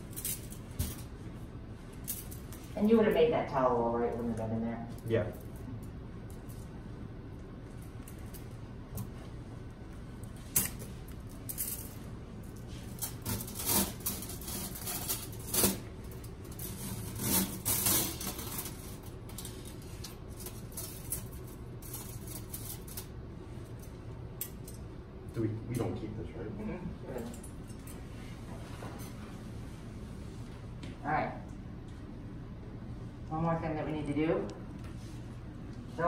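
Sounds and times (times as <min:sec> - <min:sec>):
room hum: 0:00.0 - 0:36.0.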